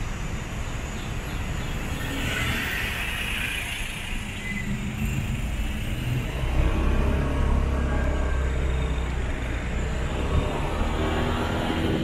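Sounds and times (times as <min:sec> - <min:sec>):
cars passing: 0:00.0 - 0:12.0
motorbike engine and road rumble: 0:00.0 - 0:12.0.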